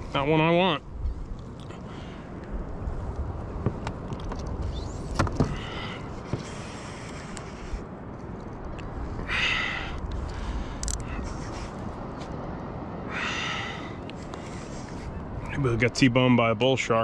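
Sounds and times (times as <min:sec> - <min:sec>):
wind on microphone: 0:00.8 - 0:16.0.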